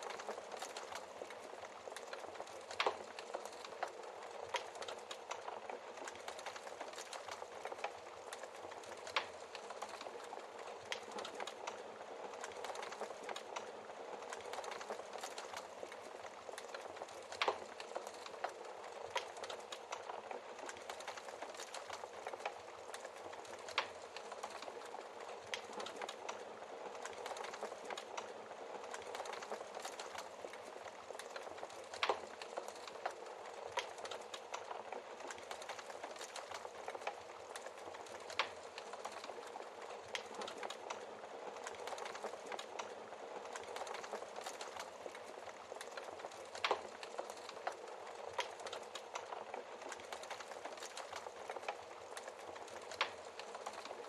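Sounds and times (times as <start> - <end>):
log fire crackling: 0.0 - 54.0.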